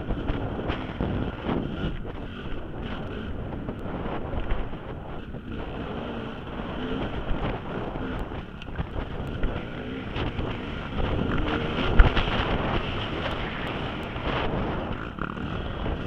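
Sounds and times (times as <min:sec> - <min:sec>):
dirt bike engine: 0:00.0 - 0:16.0
wind buffeting microphone: 0:00.0 - 0:16.0.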